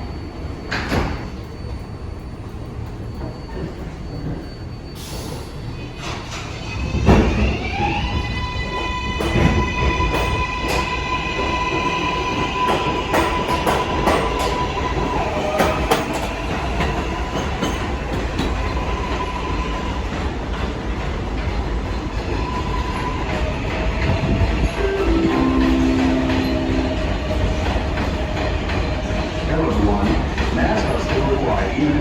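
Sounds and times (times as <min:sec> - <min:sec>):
subway train running: 0:00.0 - 0:32.0.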